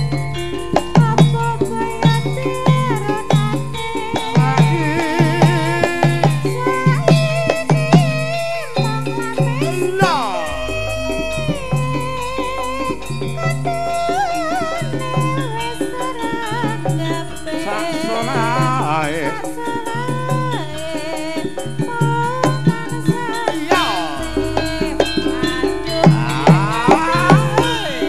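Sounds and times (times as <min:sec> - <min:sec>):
gongs: 0:00.0 - 0:28.0
hand drum strokes: 0:00.0 - 0:28.0
struck metallophones: 0:00.0 - 0:28.0
woman singing: 0:00.0 - 0:28.0.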